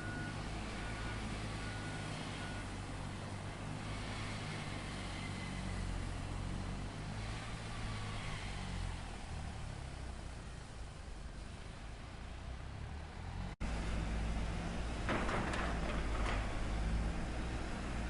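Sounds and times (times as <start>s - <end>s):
heavy machinery engine humming: 0.0s - 18.0s.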